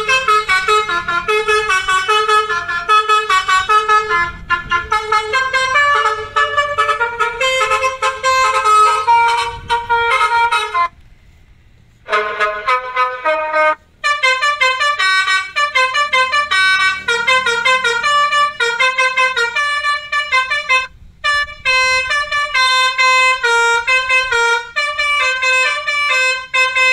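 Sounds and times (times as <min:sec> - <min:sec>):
musical truck horn tune: 0:00.0 - 0:26.9.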